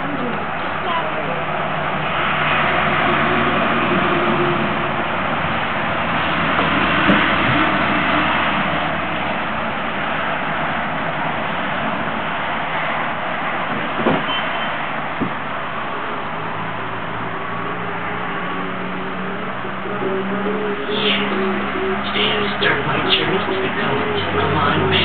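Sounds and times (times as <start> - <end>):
vehicle rushing noise with hum: 0.0 - 25.0.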